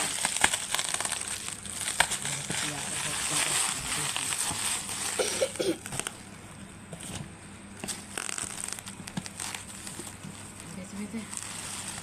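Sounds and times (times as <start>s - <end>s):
plastic packaging crinkling: 0.0s - 6.3s, 7.8s - 12.0s.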